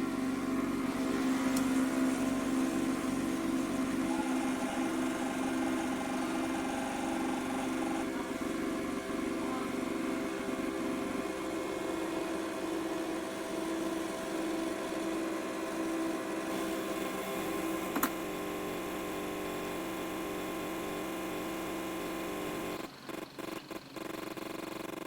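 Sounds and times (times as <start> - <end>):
espresso machine pump humming: 0.0 - 25.0.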